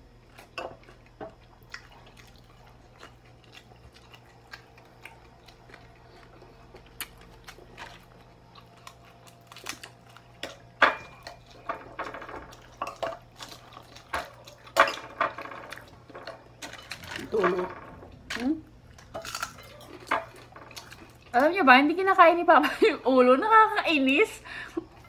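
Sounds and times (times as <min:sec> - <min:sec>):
chewing: 0:00.2 - 0:14.8, 0:15.4 - 0:21.5.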